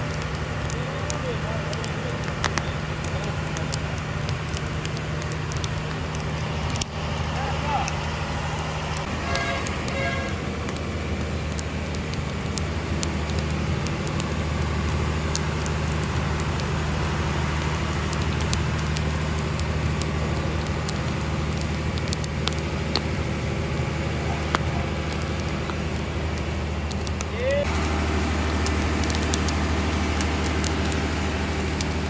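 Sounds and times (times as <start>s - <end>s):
low mechanical hum: 0.0s - 32.0s
wood fire crackling: 0.0s - 32.0s.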